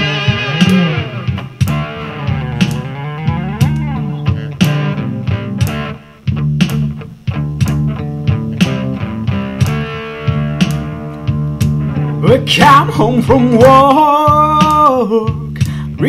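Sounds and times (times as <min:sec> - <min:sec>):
bass guitar: 0:00.0 - 0:16.0
blues-rock guitar: 0:00.0 - 0:16.0
drums: 0:00.0 - 0:16.0.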